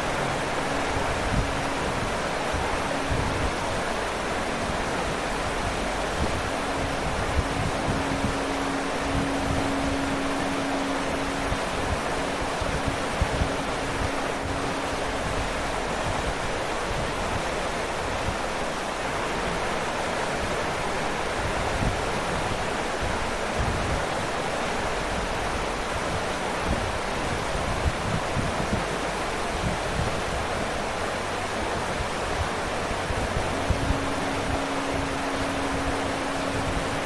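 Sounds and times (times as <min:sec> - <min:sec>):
low steady hum: 0:00.0 - 0:37.0
waterfall rushing: 0:00.0 - 0:37.0.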